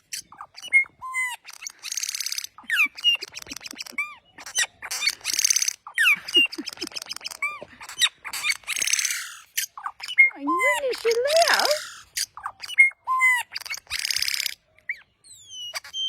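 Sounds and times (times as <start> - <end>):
bird harsh buzzy chatter: 0.0 - 12.7, 13.4 - 14.6.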